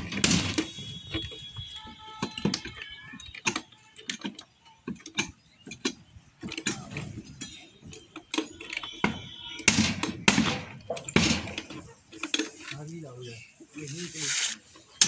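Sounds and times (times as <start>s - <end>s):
sharp clicks and knocks: 0.0s - 12.9s.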